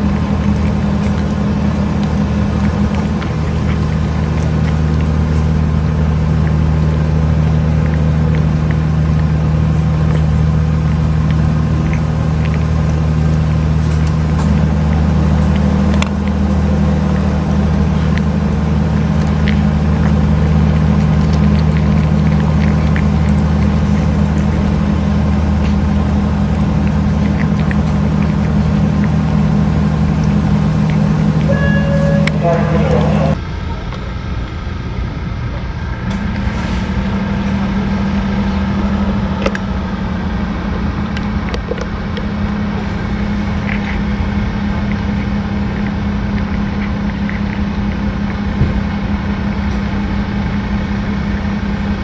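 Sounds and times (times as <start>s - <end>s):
cat chewing from metal dish: 0.0s - 33.4s, 36.2s - 52.0s
low mechanical drone: 0.0s - 52.0s.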